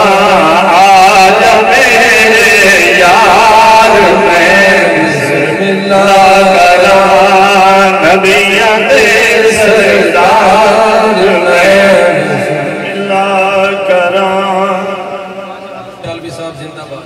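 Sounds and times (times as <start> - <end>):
man chanting over loudspeakers: 0.0 - 17.0.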